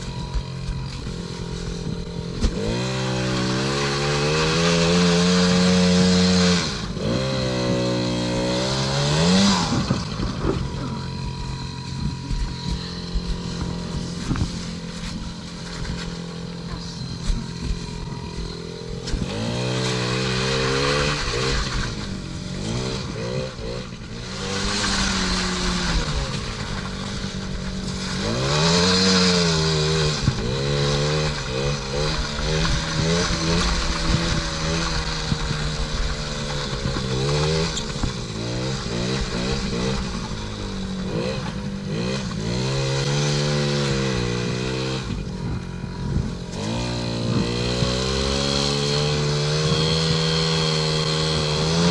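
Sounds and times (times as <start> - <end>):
two-stroke engine revving: 0.0 - 51.9.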